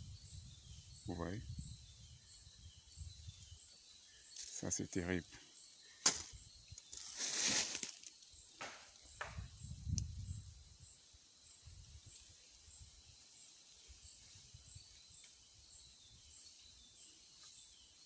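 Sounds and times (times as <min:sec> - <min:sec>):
high insect chirp: 0:00.0 - 0:18.0.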